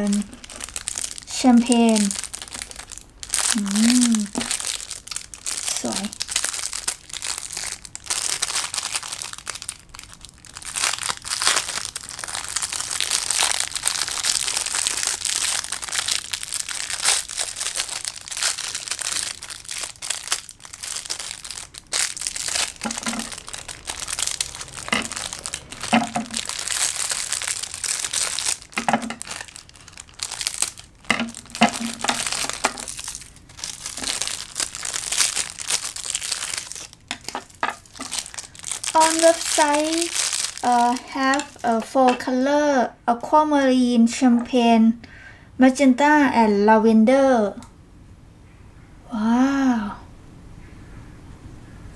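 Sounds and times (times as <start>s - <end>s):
plastic bags crinkling: 0.0s - 42.4s.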